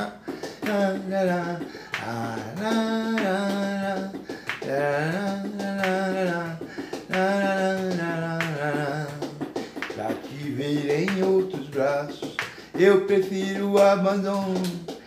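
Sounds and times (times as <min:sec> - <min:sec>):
finger snaps: 0:00.0 - 0:15.0
man humming a melody: 0:00.0 - 0:15.0.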